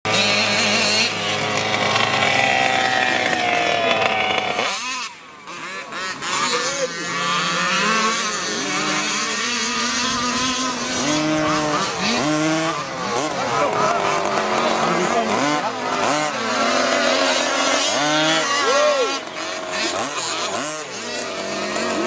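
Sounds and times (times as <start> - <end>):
rc car engine revving: 0.1 - 22.0.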